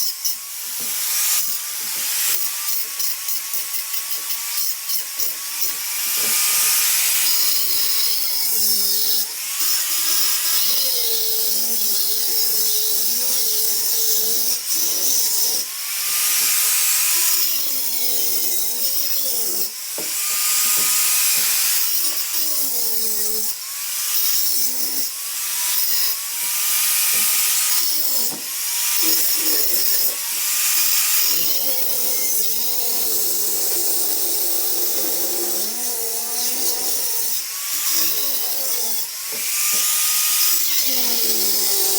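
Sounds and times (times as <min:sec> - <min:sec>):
power tool motor running: 0:00.0 - 0:41.9.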